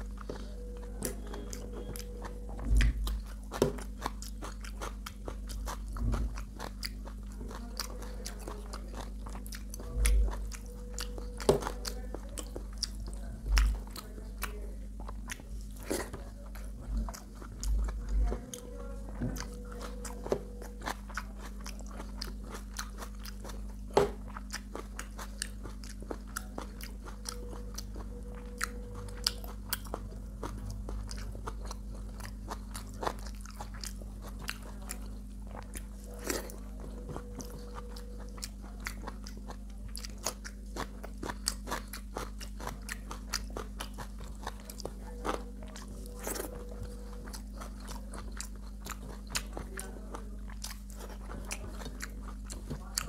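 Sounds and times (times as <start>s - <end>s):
chewing and crunching food: 0.0s - 53.0s
low hum: 0.0s - 53.0s.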